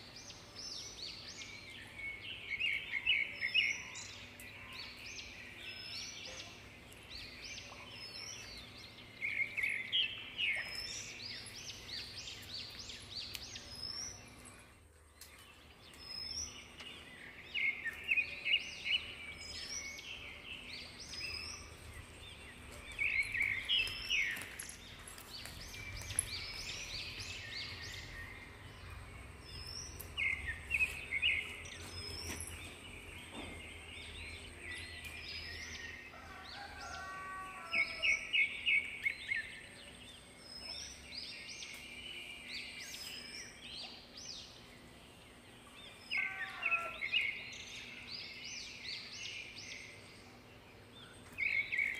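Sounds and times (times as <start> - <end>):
birds chirping and trilling: 0.0 - 51.9.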